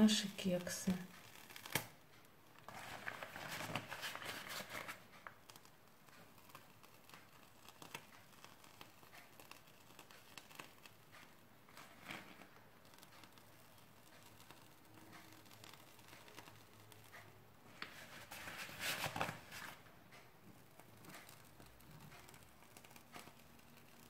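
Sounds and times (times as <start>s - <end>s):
piping bag rustling and crinkling: 0.0s - 19.8s, 20.4s - 24.0s.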